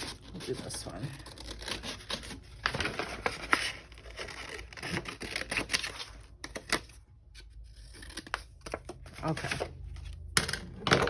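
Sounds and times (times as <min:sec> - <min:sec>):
scissors cutting paper: 0:00.0 - 0:09.7.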